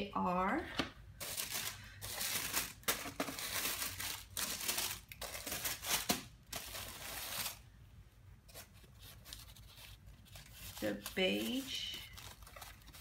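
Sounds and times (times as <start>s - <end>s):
tissue paper rustling: 1.2s - 7.6s, 8.5s - 13.0s.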